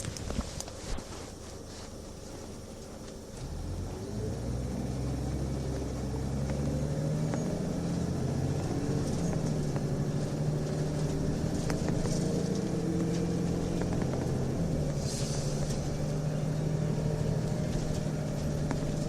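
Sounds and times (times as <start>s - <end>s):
bus diesel engine accelerating: 0.0s - 19.0s.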